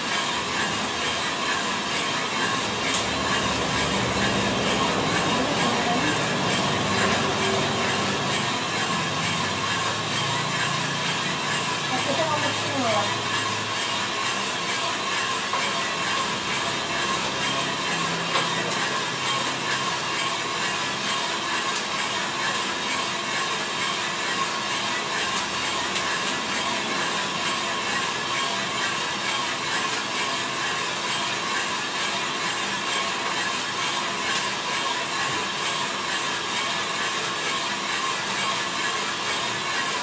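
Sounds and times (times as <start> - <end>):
coffee beans rattling in drum: 0.0 - 40.0
fan and burner hum: 0.0 - 40.0.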